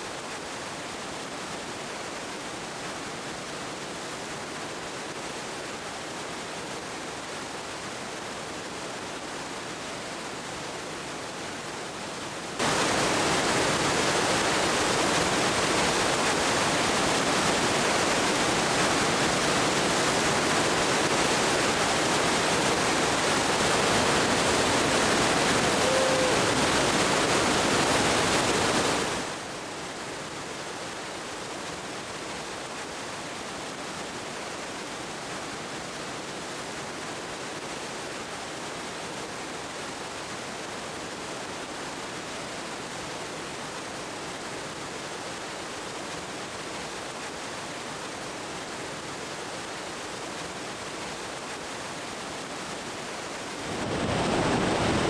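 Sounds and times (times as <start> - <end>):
roar of rushing water: 0.0 - 55.0.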